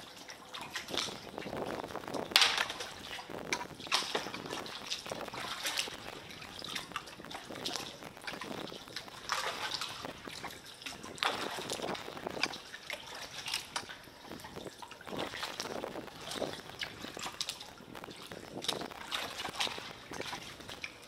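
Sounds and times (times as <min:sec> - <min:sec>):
water sloshing from kayak paddling: 0:00.0 - 0:21.0.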